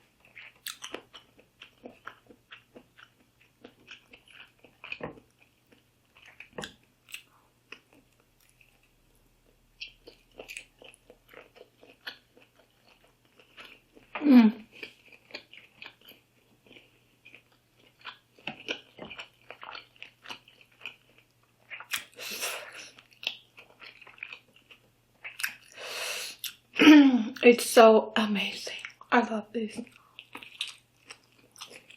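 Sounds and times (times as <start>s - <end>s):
person chewing seafood: 0.0s - 26.8s, 29.9s - 31.9s.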